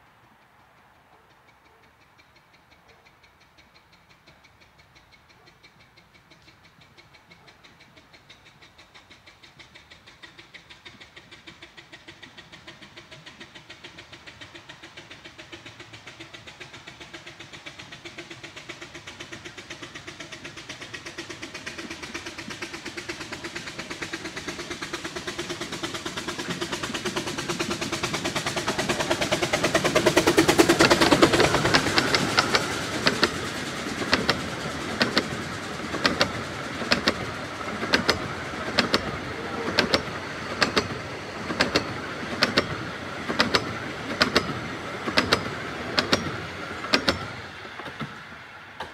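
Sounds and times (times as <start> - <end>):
steam locomotive exhaust beats: 0.0 - 48.9
wheels clicking over rail joints: 0.0 - 48.9.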